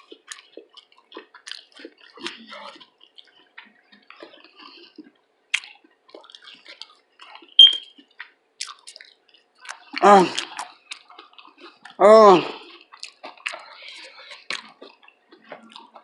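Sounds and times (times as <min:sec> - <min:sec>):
wet chewing and lip-smacking: 0:00.0 - 0:16.0.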